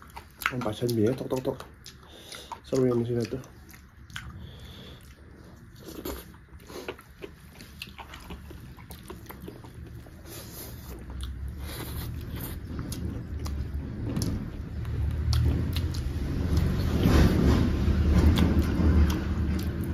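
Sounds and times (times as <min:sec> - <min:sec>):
wet mouth clicks and crunches: 0:00.0 - 0:04.4, 0:05.0 - 0:17.2
close-up chewing: 0:00.0 - 0:19.9.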